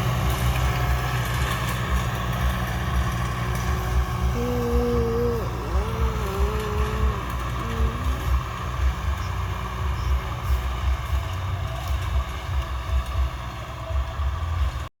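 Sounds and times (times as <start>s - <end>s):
tractor engine running: 0.0s - 14.9s.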